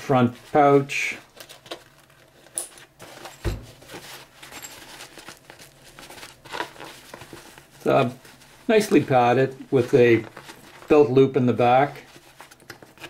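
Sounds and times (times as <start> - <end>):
nylon bag rustling: 0.0 - 13.0.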